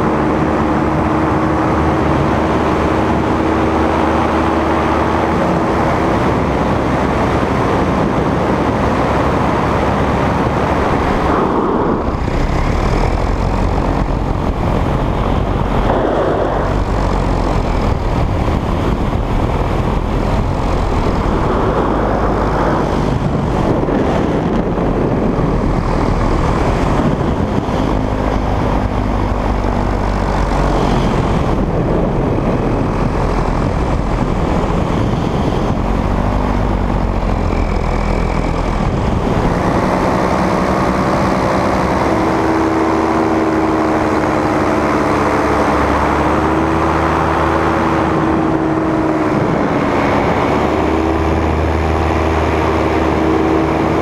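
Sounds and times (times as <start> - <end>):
paramotor engine running: 0.0 - 54.0.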